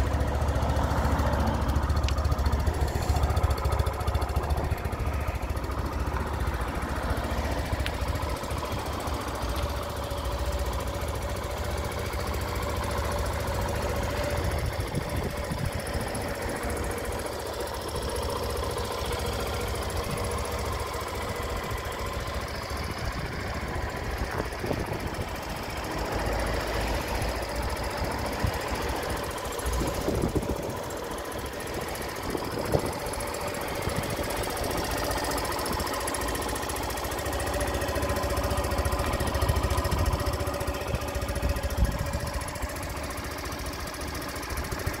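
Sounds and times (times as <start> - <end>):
motorcycle engine idling: 0.0 - 45.0.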